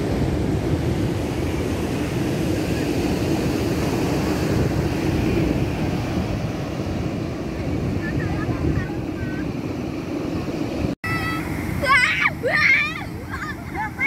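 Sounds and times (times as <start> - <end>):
ocean surf breaking: 0.0 - 14.0
wind blowing across microphone: 0.0 - 14.0.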